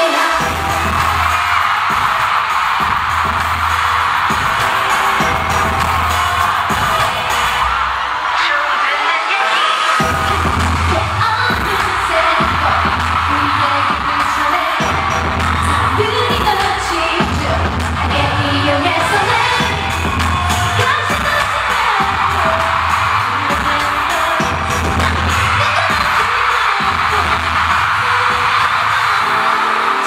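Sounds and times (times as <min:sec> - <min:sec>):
crowd noise: 0:00.0 - 0:30.0
pop song with female voices singing: 0:00.0 - 0:30.0
heavy pulsing bass beat: 0:00.3 - 0:07.7, 0:10.0 - 0:29.0.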